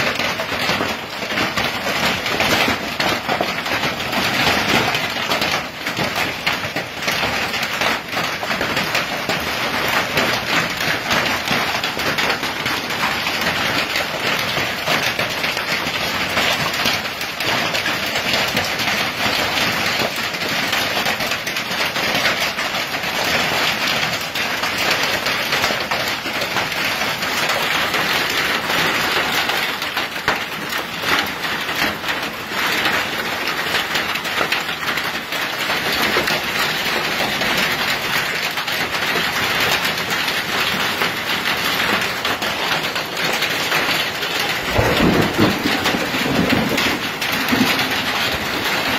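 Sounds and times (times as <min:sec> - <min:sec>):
hail and rain pelting a roof: 0:00.0 - 0:48.9.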